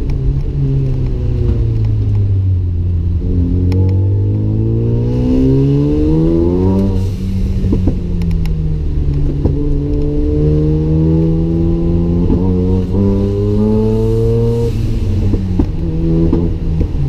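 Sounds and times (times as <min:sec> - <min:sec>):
rotary engine accelerating: 0:03.0 - 0:17.0.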